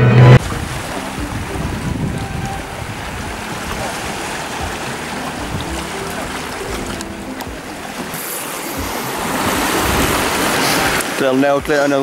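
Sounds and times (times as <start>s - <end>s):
wind buffeting microphone: 0.4s - 8.0s, 8.8s - 11.7s
faint background music: 0.4s - 12.0s
waves washing against rocks: 0.4s - 12.0s.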